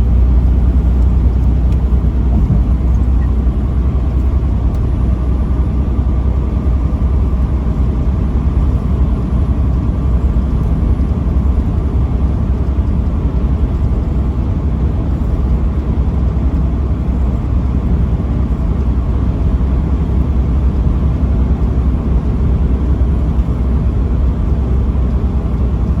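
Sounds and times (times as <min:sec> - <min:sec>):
truck driving rumble: 0:00.0 - 0:26.0.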